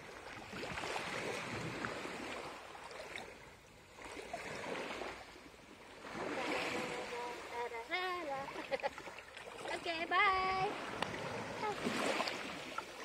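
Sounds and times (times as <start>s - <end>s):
sea water washing on shore: 0.0s - 13.0s.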